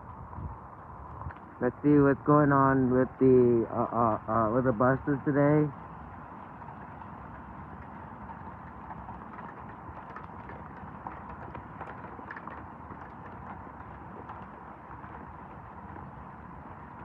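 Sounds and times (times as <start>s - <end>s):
steady rain falling: 2.2s - 17.0s.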